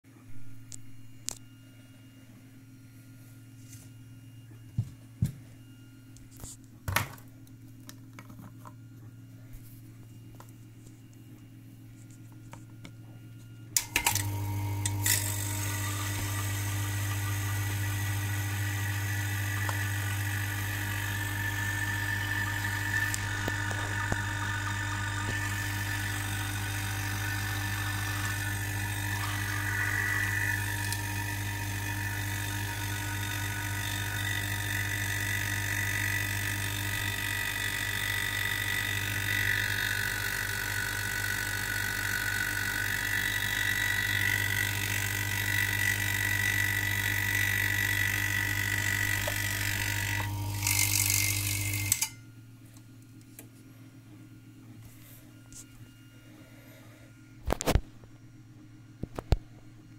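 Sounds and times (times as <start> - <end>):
vacuum pump humming: 0.2 - 59.9.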